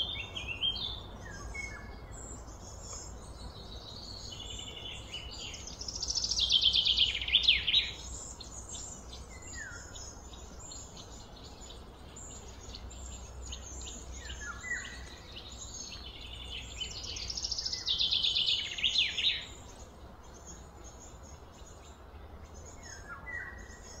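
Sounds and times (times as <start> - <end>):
high bird chirps and calls: 0.0 - 24.0
loud bird song sweeping downward: 0.0 - 24.0.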